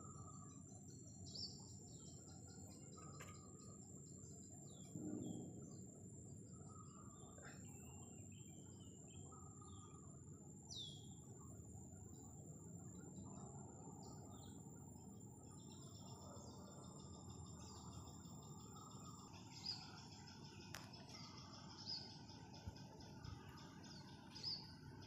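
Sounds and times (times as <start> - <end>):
insect trill: 0.0 - 25.0.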